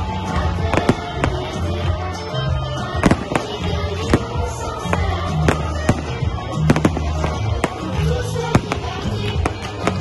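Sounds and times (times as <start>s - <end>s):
fireworks bangs and crackles: 0.0s - 2.0s, 2.8s - 10.0s
music with pulsing bass: 0.0s - 10.0s.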